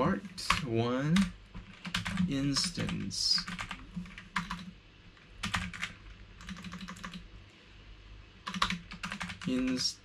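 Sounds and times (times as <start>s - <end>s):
keyboard typing: 0.0s - 7.2s, 8.4s - 10.0s.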